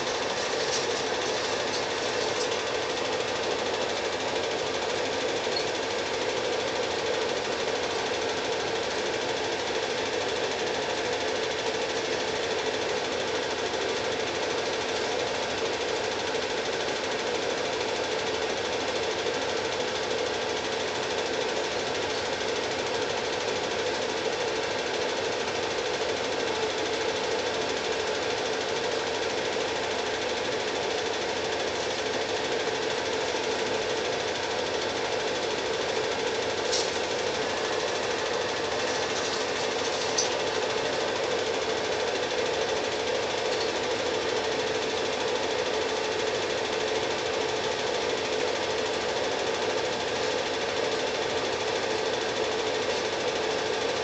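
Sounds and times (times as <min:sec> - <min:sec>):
film projector clattering: 0:00.0 - 0:54.0.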